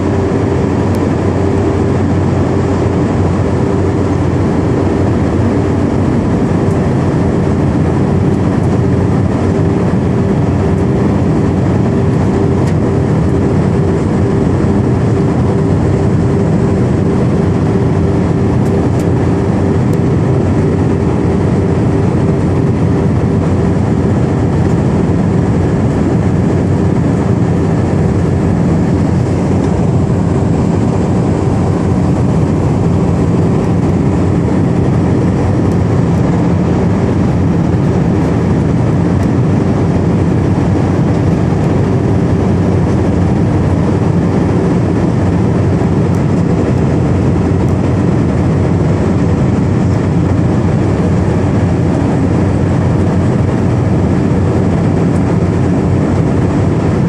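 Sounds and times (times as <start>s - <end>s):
airplane cabin engine hum: 0.0s - 57.0s.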